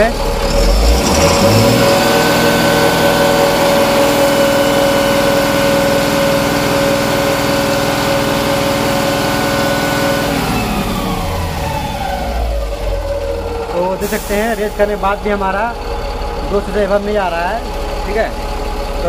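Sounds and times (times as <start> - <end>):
diesel truck engine revving: 0.0 - 19.0.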